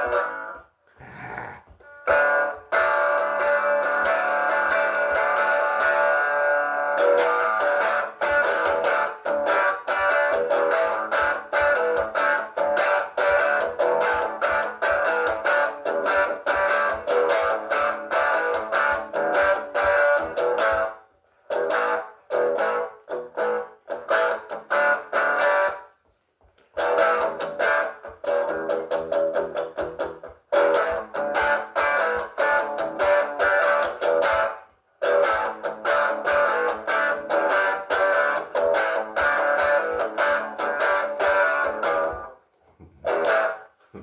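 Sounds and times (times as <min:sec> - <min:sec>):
guitar strumming: 0:00.0 - 0:00.9, 0:01.8 - 0:26.0, 0:26.6 - 0:44.0.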